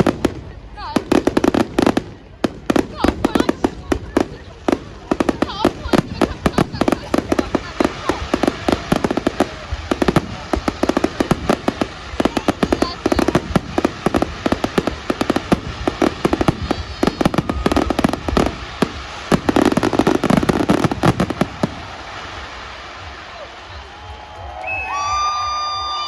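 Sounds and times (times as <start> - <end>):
firework bangs and crackles: 0.0 - 26.0.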